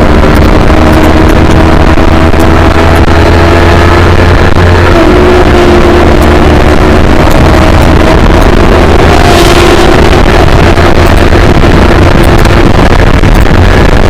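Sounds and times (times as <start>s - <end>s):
motorcycle engine running hard: 0.0s - 14.0s
wind rush on microphone: 0.0s - 14.0s.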